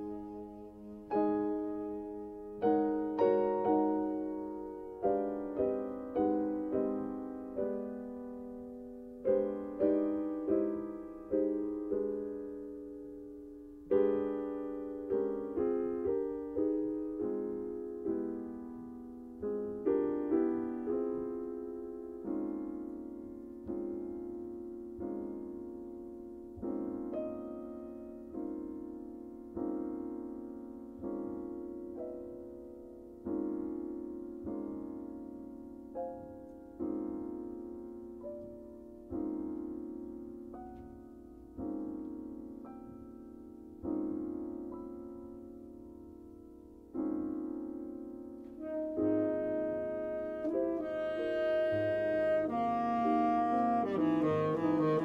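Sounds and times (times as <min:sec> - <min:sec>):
solo piano ballad: 0:00.0 - 0:55.0.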